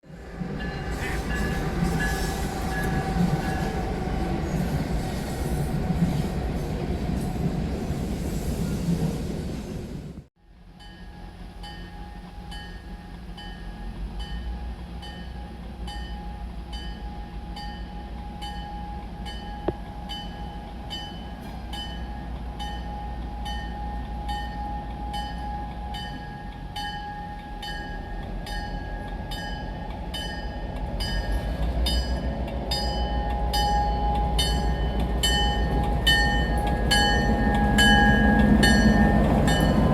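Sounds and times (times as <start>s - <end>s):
train rumbling along track: 0.0s - 39.9s.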